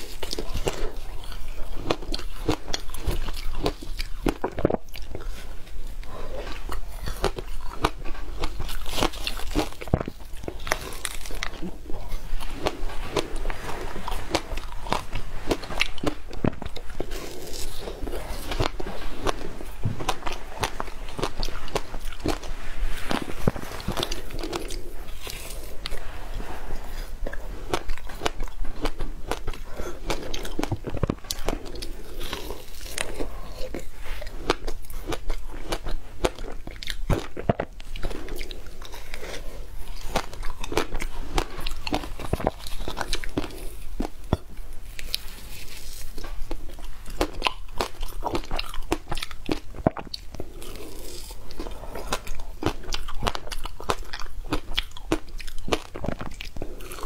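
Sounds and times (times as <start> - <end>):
ice crunching being chewed: 0.0 - 57.0.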